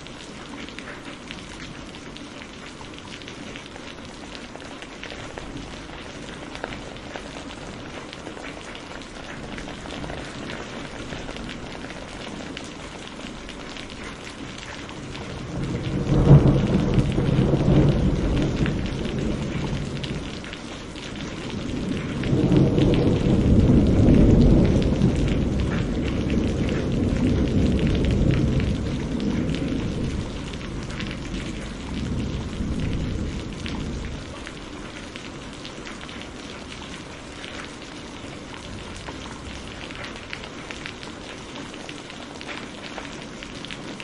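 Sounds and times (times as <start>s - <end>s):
heavy rain falling: 0.0s - 44.0s
thunder rumbling: 4.4s - 41.0s.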